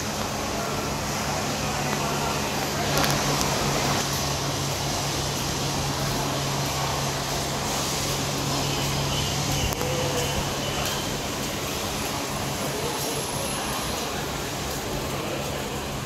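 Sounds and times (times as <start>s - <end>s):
crowd of diners: 0.0s - 16.0s
fans whirring: 0.0s - 16.0s.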